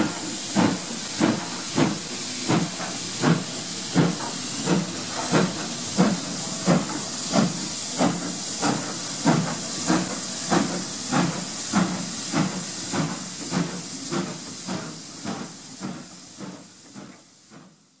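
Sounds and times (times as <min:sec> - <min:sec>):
steady hiss of steam: 0:00.0 - 0:18.0
steam locomotive exhaust beats: 0:00.0 - 0:18.0.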